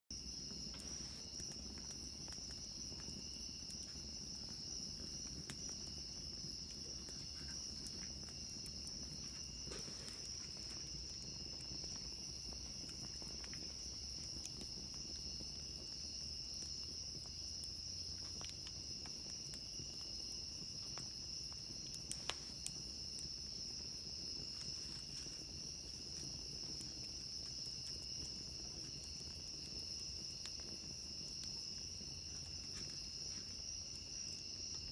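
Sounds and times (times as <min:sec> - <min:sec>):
campfire popping: 0:00.1 - 0:34.9
crickets trilling: 0:00.1 - 0:34.9.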